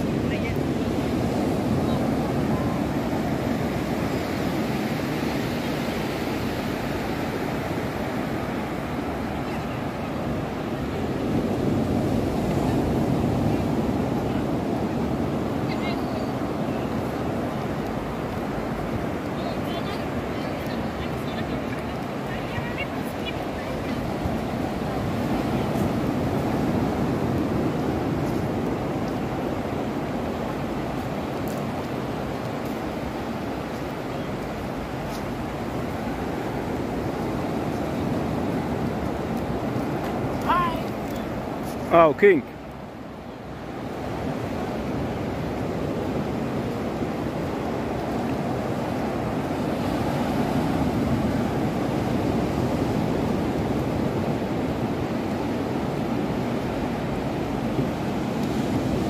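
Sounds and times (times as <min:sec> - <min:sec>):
wind rumbling on microphone: 0:00.0 - 0:41.9, 0:42.6 - 0:59.0
surf washing onto sand: 0:00.0 - 0:59.0.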